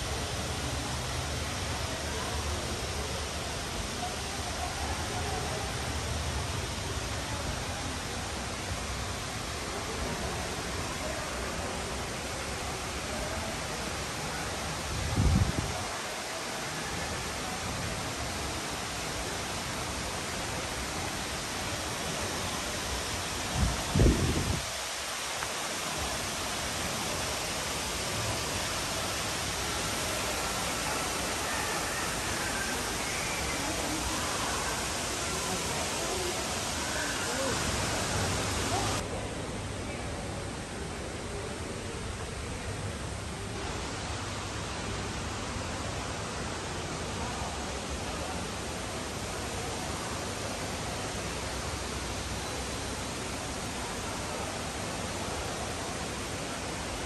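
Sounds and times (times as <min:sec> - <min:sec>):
waterfall rushing: 0:00.0 - 0:39.5, 0:40.5 - 0:57.0.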